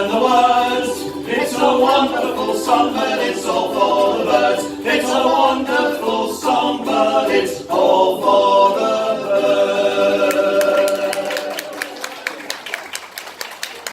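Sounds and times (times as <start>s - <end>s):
group singing in harmony: 0.0s - 11.8s.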